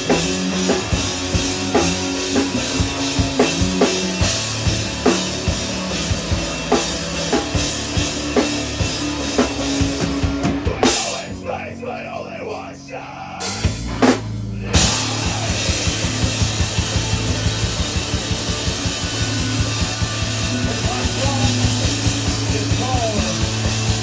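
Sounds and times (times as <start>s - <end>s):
fast drum beat: 0.0s - 11.5s, 13.4s - 24.0s
instrumental rock band playing: 0.0s - 12.0s, 13.4s - 24.0s.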